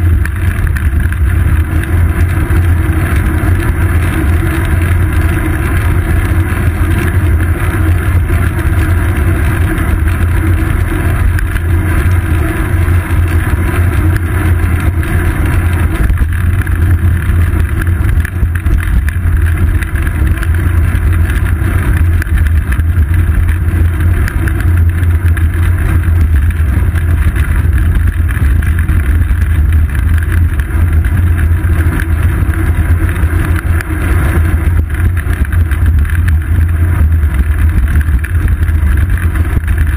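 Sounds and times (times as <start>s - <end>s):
road vibration rumble: 0.0s - 39.9s
wind buffeting microphone: 0.0s - 39.9s.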